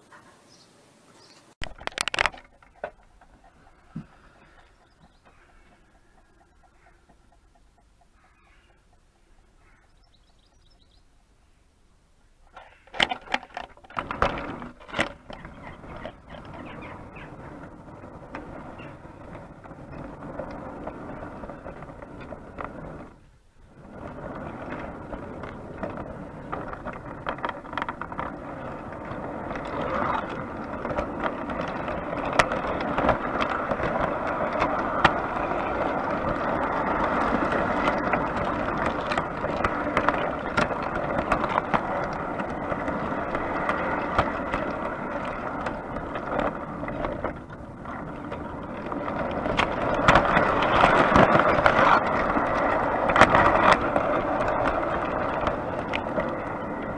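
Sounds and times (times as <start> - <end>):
model train wheels rattling: 1.6 - 11.4, 12.3 - 56.9
sharp track clicks: 1.6 - 11.4, 12.4 - 56.9.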